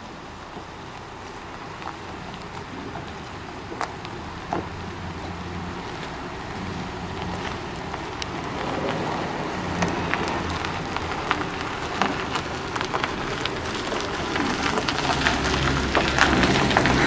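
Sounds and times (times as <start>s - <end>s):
bus diesel engine hum: 0.0s - 17.0s
dense crackling noise: 0.0s - 17.0s.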